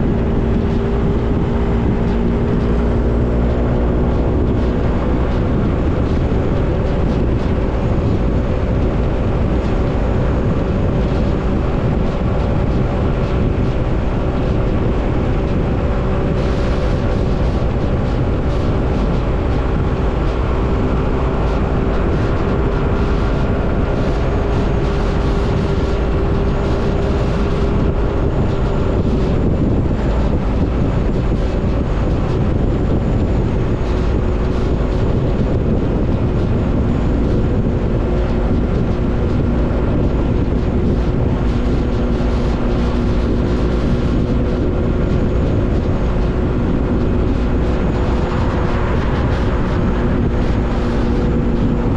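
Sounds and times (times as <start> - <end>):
motorbike engine running: 0.0 - 51.9
wind rumble on microphone: 0.0 - 51.9.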